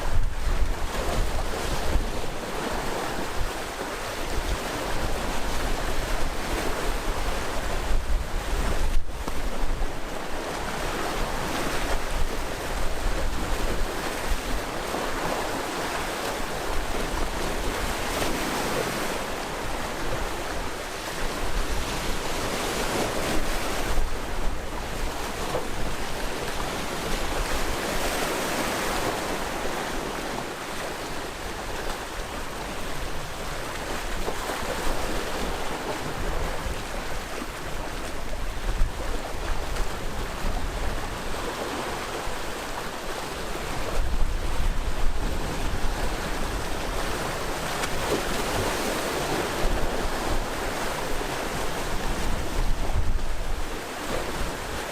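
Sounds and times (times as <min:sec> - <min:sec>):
sea waves washing onto shore: 0:00.0 - 0:54.9.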